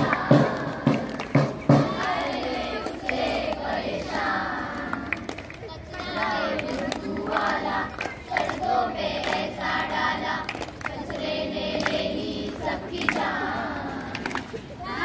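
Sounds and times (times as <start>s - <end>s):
children singing in chorus: 0.0s - 1.1s, 1.7s - 5.3s, 5.9s - 15.0s
hand claps: 0.0s - 14.7s.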